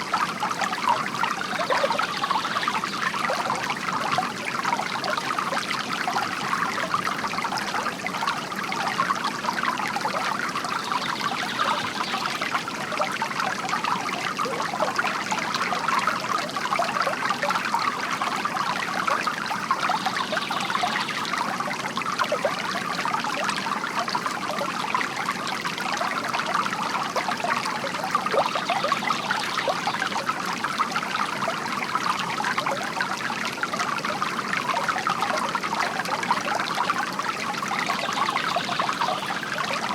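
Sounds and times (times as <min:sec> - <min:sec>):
water trickling from fountain: 0:00.0 - 0:39.9.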